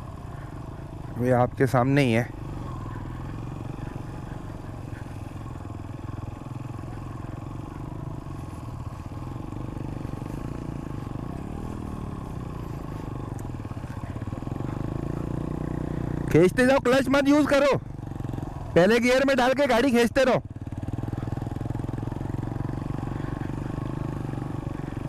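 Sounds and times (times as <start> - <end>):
motorcycle engine under load: 0.0 - 25.0.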